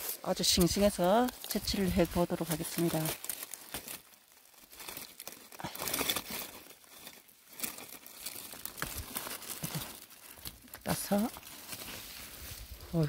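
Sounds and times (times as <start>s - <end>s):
dry leaves and soil rustling: 0.0s - 13.0s.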